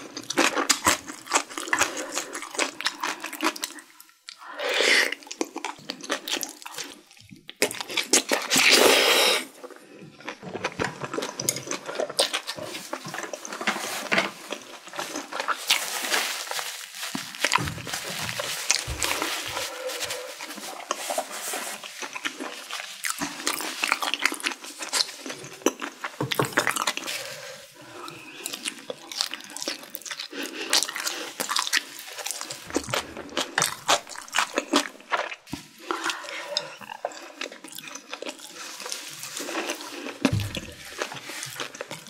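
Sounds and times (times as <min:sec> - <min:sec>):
wet chewing and lip-smacking: 0:00.0 - 0:08.8, 0:09.6 - 0:13.6, 0:17.4 - 0:27.2, 0:28.1 - 0:42.0.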